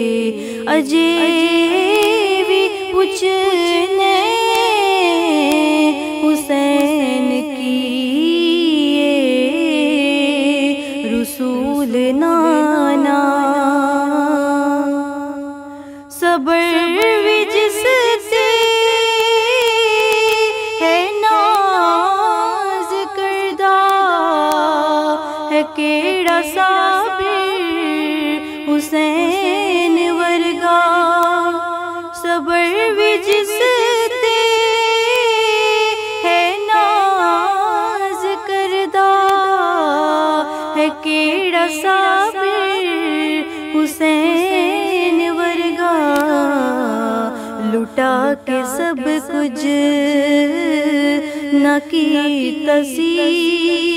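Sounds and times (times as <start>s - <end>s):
woman singing unaccompanied: 0.0s - 53.9s.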